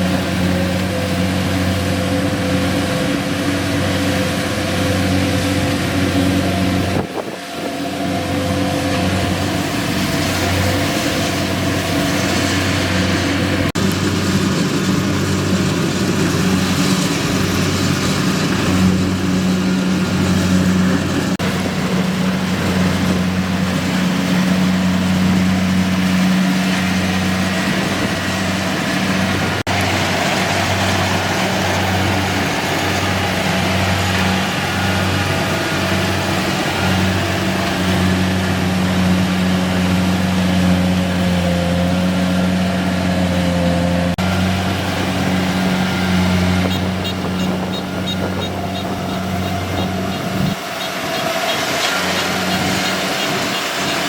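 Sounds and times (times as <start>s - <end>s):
combine harvester engine running: 0.0s - 54.0s.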